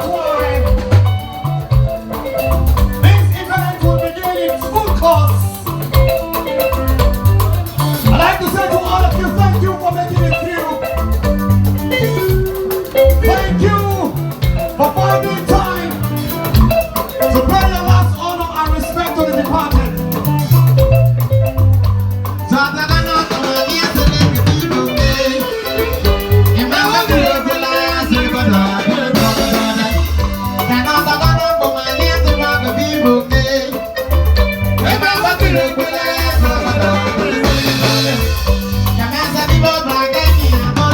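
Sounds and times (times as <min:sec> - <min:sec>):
steady bass beat: 0:00.0 - 0:40.9
upbeat band music: 0:00.0 - 0:40.9.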